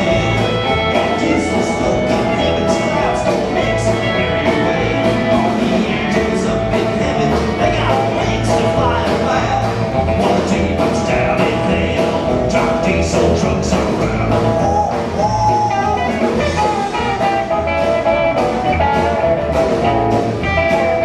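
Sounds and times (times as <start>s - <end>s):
live country band: 0.0s - 21.0s.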